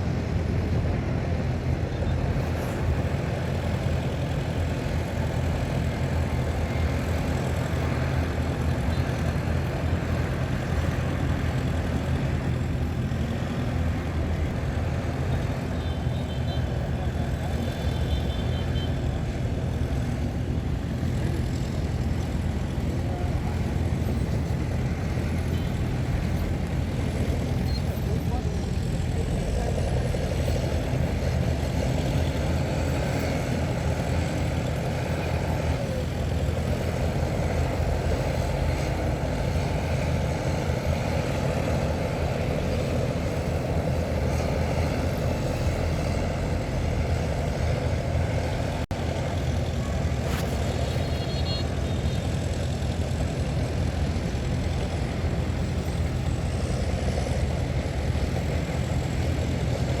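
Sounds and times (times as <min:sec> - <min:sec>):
heavy diesel engines running: 0:00.0 - 1:00.0.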